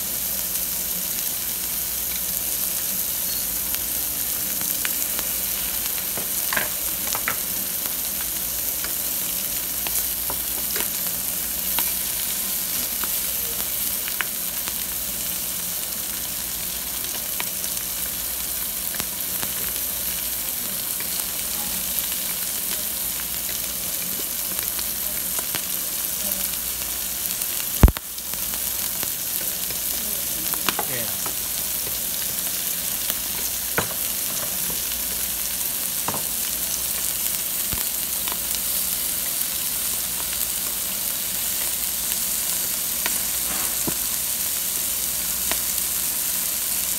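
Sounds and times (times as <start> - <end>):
pork sizzling on a grill plate: 0.0 - 46.9.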